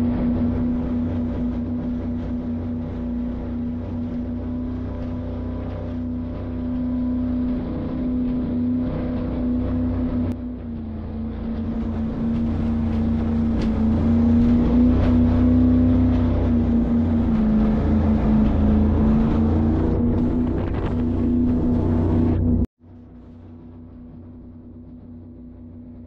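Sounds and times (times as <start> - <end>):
low rumble: 0.0 - 26.0
steady motor hum: 0.0 - 26.0.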